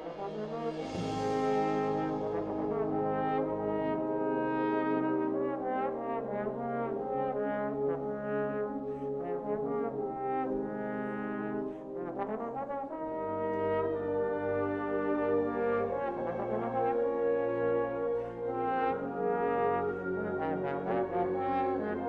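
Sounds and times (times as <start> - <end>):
wind band playing: 0.0 - 22.0.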